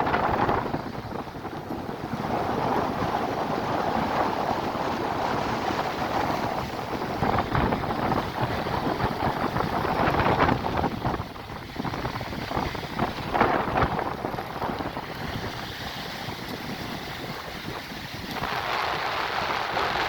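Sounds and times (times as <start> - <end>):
sea surf: 0.0 - 20.0
wind buffeting microphone: 0.0 - 20.0.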